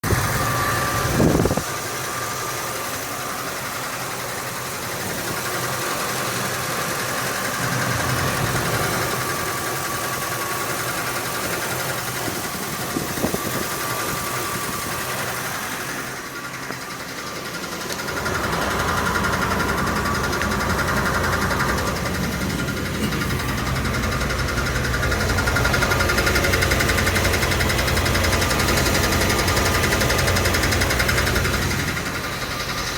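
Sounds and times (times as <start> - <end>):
ticking under truck: 0.0 - 32.9
truck engine idling: 0.0 - 32.9.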